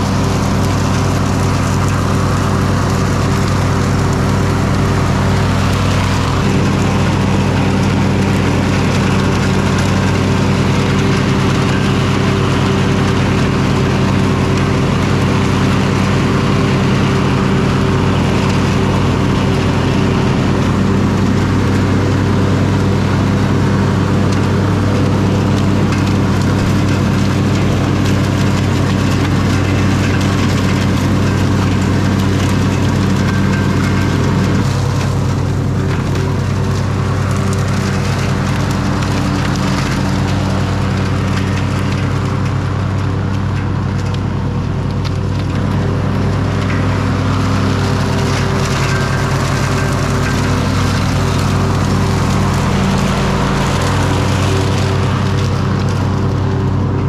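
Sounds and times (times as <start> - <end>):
lawn tractor mowing: 0.0 - 57.0.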